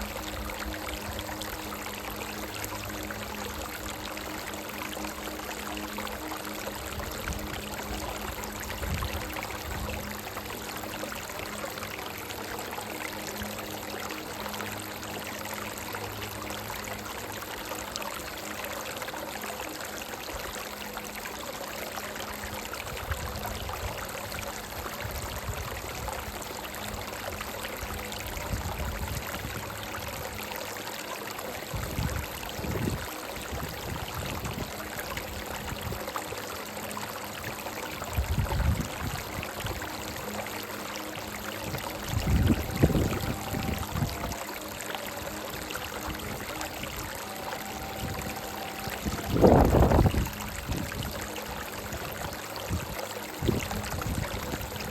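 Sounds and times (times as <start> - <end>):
brook babbling over rocks: 0.0 - 54.9
low water gurgles: 0.0 - 54.9.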